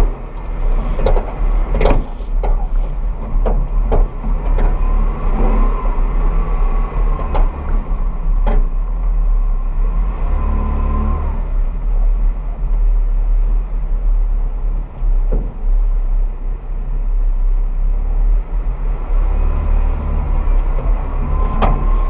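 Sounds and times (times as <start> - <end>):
heavy low rumble: 0.0 - 22.0
off-road vehicle engine under load: 0.0 - 22.0.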